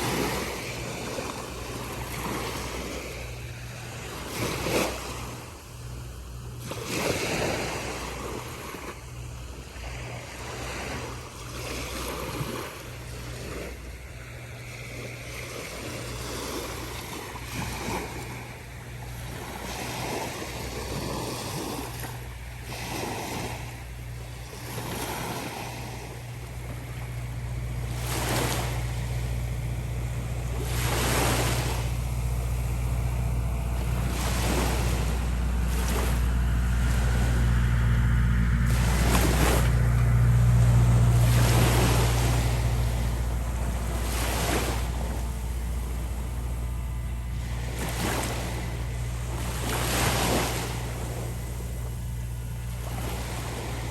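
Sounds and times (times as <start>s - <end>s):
small waves breaking on beach: 0.0s - 53.9s
steady low hum: 0.0s - 53.9s.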